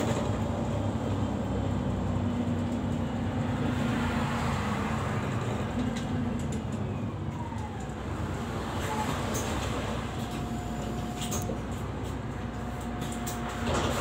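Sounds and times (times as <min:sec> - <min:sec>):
bus engine running: 0:00.0 - 0:14.0
road noise: 0:00.0 - 0:14.0.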